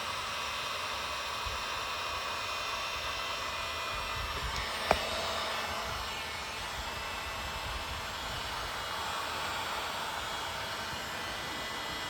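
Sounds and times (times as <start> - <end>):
heat gun blowing with whine: 0.0 - 12.0.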